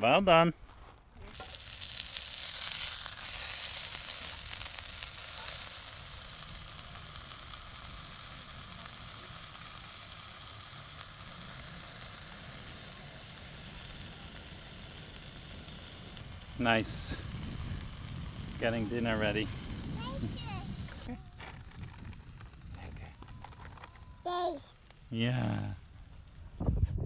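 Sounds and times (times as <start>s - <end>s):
food sizzling: 1.3s - 26.6s.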